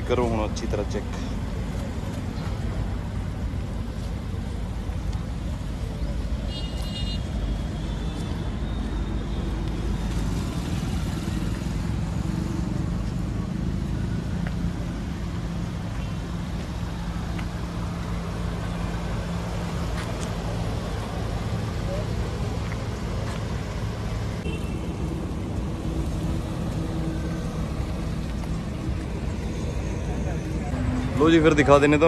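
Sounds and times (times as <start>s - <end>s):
low rumble of traffic: 0.0s - 32.0s.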